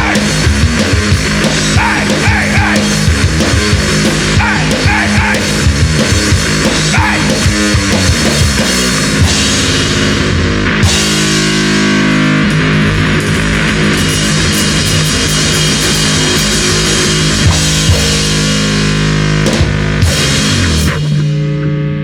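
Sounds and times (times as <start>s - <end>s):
bass and drums: 0.0s - 22.0s
distorted electric guitar: 0.0s - 22.0s.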